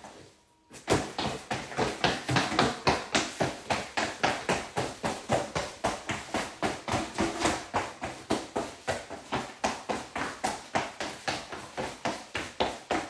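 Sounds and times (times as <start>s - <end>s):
feet stomping on floor: 0.7s - 13.0s.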